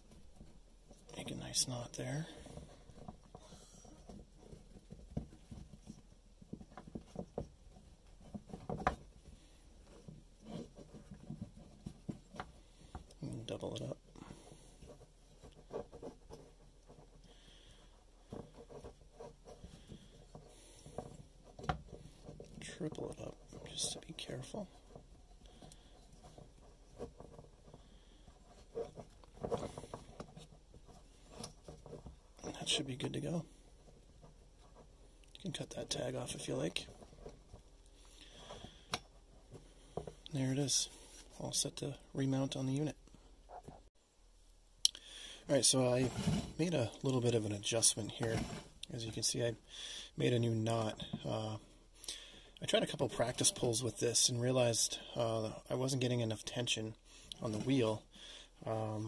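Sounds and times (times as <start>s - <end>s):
hands tying cord: 0.0s - 43.9s, 44.8s - 59.0s.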